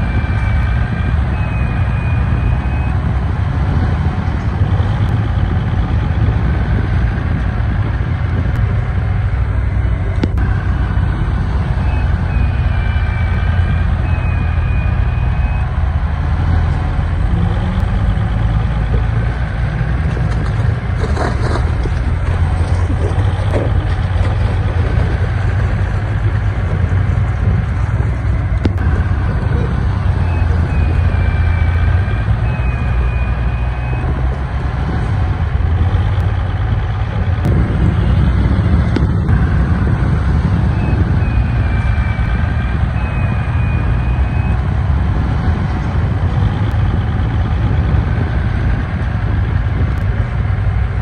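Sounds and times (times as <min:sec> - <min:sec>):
heavy diesel machinery rumbling: 0:00.0 - 0:51.0.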